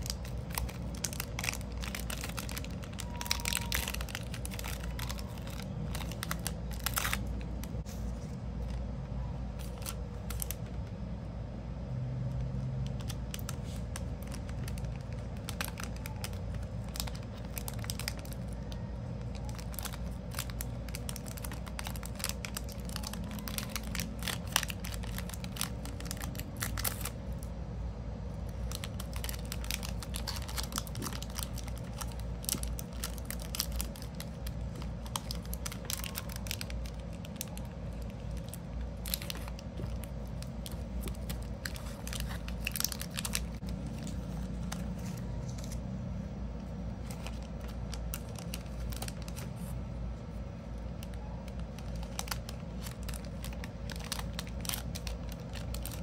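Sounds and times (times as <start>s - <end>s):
plastic bag crinkling: 0.0s - 10.9s, 12.6s - 27.6s, 28.3s - 46.0s, 46.8s - 56.0s
steady low hum: 0.0s - 56.0s.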